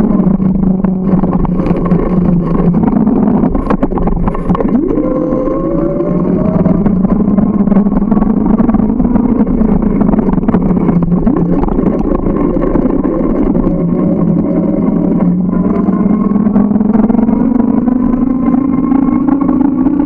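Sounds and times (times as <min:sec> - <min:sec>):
bike running drone: 0:00.0 - 0:20.0.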